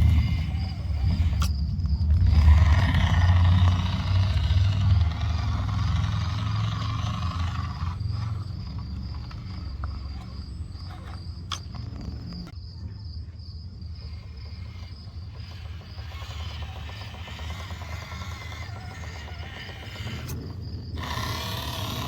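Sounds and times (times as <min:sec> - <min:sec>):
toy truck electric motor running: 0:00.0 - 0:12.6, 0:13.9 - 0:22.0.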